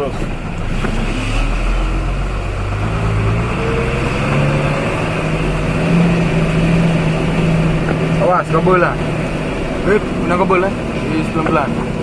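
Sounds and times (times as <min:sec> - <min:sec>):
heavy truck engine pulling uphill: 0:00.0 - 0:12.0.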